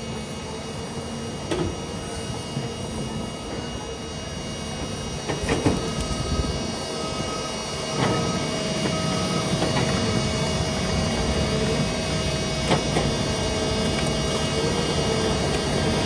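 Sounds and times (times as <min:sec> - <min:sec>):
excavator diesel engine and hydraulics: 0:00.0 - 0:16.0.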